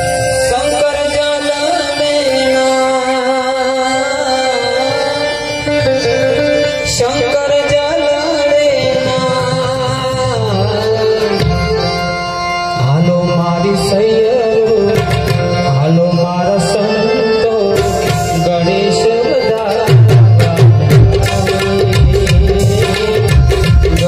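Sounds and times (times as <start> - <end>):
harmonium playing: 0.0 - 24.0
tabla drumming: 0.0 - 24.0.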